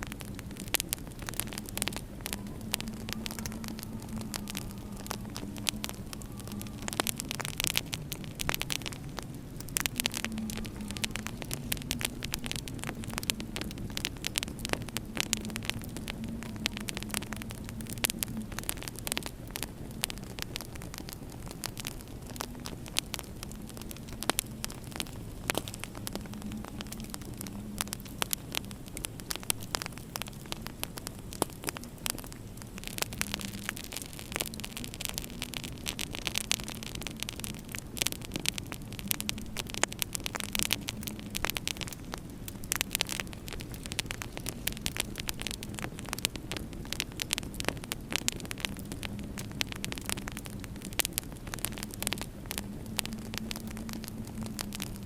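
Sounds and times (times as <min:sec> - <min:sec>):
low steady hum: 0:00.0 - 0:55.0
wood fire crackling: 0:00.0 - 0:55.0.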